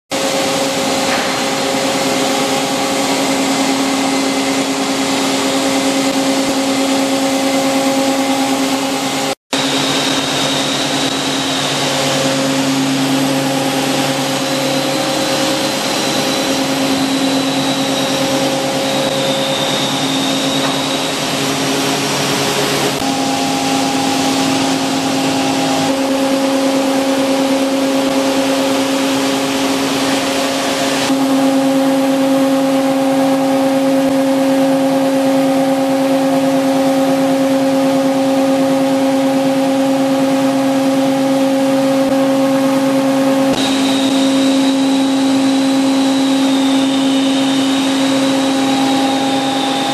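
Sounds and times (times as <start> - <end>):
constant machine hum: 0.1 - 49.9
stone grinding machine running: 0.1 - 49.9.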